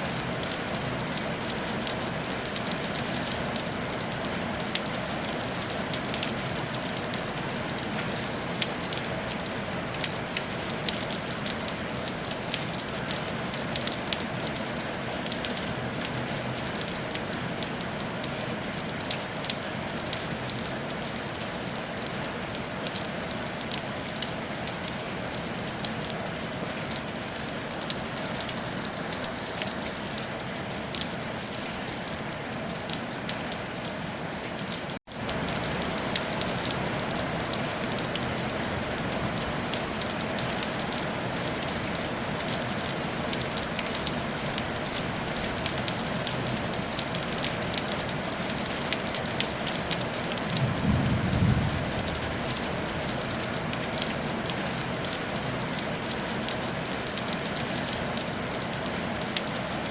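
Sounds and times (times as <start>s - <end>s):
rain on a tile roof: 0.0s - 59.9s.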